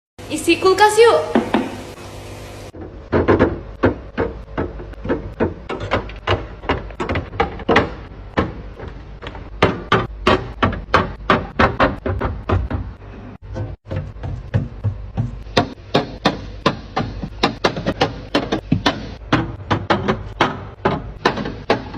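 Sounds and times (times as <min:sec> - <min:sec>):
containers knocking and clattering: 0:02.8 - 0:21.9.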